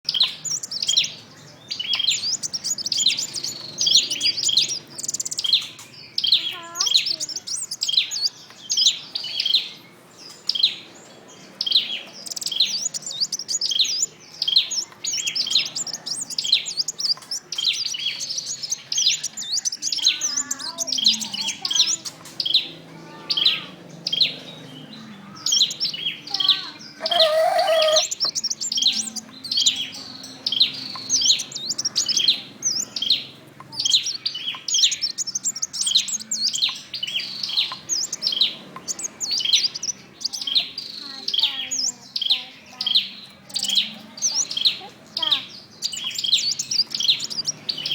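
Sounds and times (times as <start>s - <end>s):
bird rapid high chirps: 0.1s - 9.7s, 11.6s - 22.7s, 25.4s - 47.9s.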